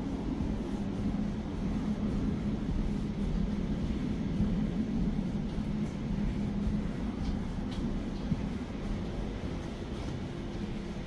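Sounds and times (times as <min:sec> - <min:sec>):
low steady hum: 0:00.0 - 0:11.0
train rumble: 0:00.0 - 0:11.0.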